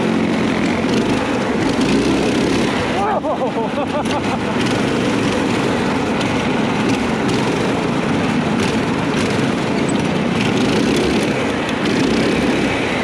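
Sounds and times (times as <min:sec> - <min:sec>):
go-kart engines running hard: 0:00.0 - 0:13.0.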